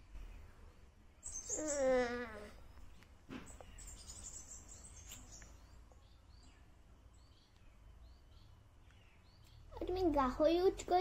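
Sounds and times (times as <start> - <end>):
faint bird chirps: 0.0 - 10.2.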